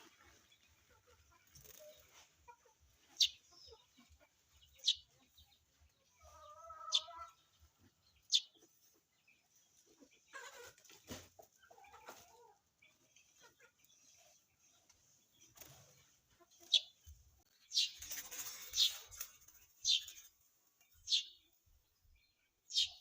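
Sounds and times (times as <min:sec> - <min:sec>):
sparrows chirping: 0:00.0 - 0:23.0.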